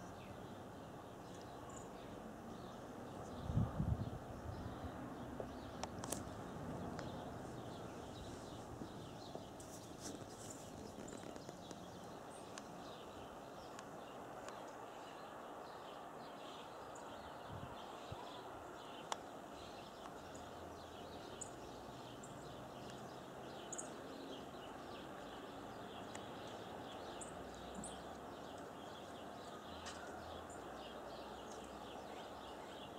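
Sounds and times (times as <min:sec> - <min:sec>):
outdoor background hiss: 0:00.0 - 0:32.9
songbirds chipping and twittering: 0:00.0 - 0:32.9.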